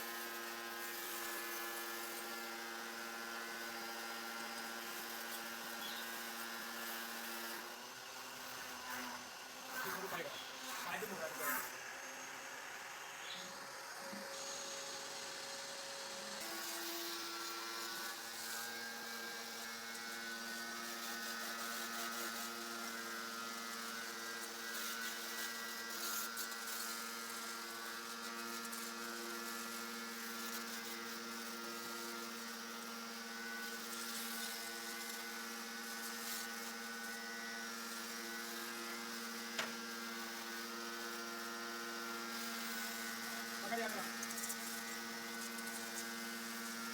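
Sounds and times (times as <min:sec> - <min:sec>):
electric motor hum: 0:00.0 - 0:46.9.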